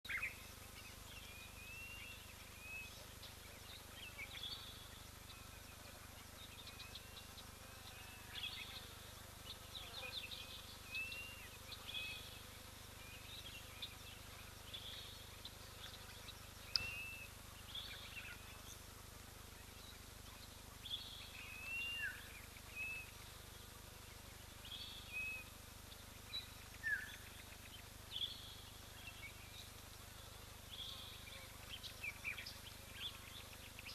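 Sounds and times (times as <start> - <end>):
birds chirping and twittering: 0.1 - 33.9
faint steady hiss: 0.1 - 33.9.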